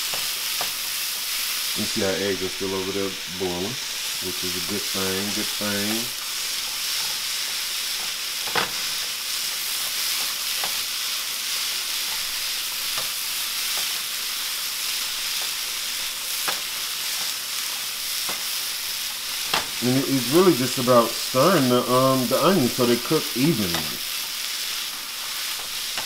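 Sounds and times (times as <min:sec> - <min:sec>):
onions sizzling in a skillet: 0:00.0 - 0:26.0.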